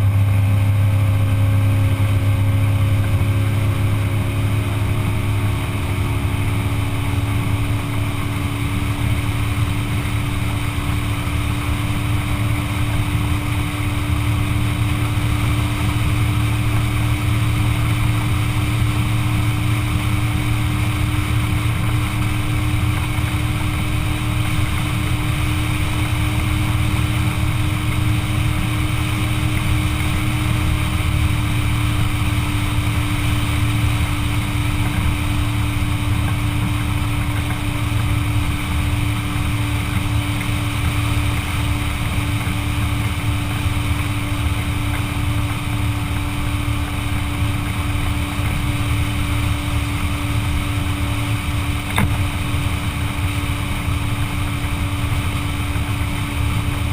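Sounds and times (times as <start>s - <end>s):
motorboat engine running: 0.0s - 56.9s.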